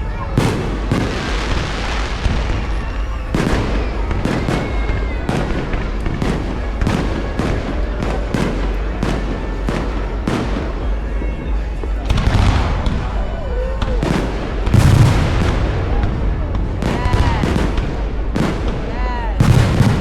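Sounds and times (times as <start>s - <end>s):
constant low rumble: 0.0s - 20.0s
fireworks bangs: 0.0s - 20.0s.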